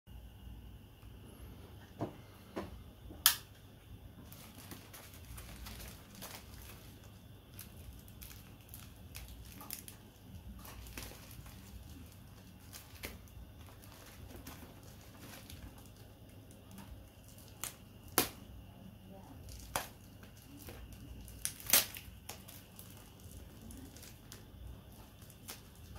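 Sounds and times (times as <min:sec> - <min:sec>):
packaging crinkling: 0:04.2 - 0:18.5, 0:19.2 - 0:25.9.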